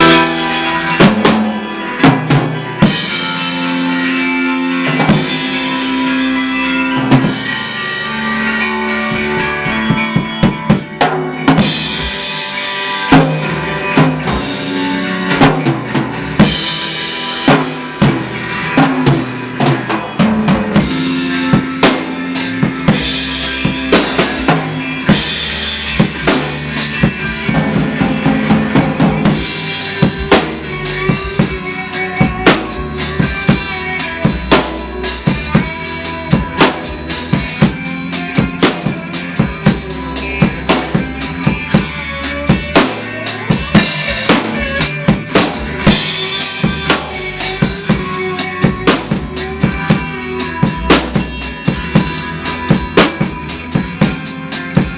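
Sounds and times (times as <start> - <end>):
drum kit playing: 0.0 - 54.9
sustained guitar chords: 0.0 - 54.9.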